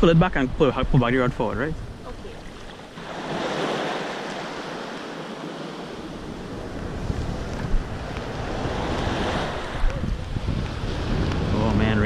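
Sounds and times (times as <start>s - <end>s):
sea surf washing ashore: 0.0s - 12.0s
wind buffeting microphone: 0.0s - 12.0s.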